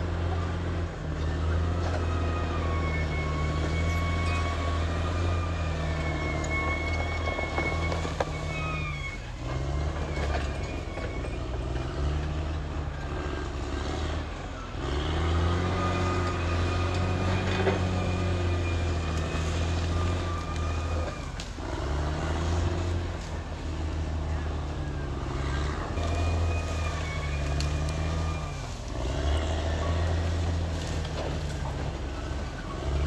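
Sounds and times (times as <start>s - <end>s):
bulldozer diesel engine under load: 0.0s - 33.0s
high wavering squeals: 0.3s - 33.0s.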